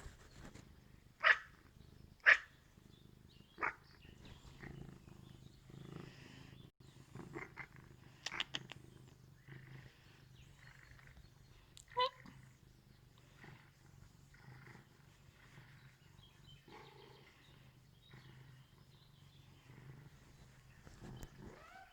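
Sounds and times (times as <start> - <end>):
cat purring: 0.0 - 21.9.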